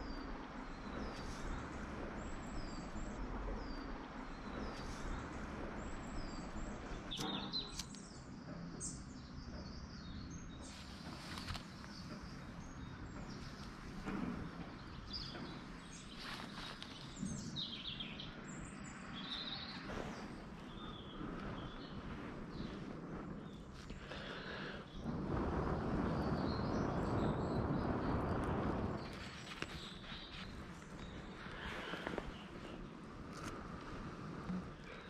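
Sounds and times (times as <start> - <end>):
birds singing and calling: 0.0 - 35.0
steady rushing noise: 0.0 - 35.0.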